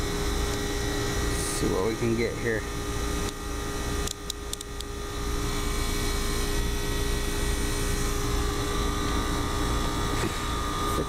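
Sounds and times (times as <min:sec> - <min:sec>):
air conditioner unit droning: 0:00.0 - 0:11.0.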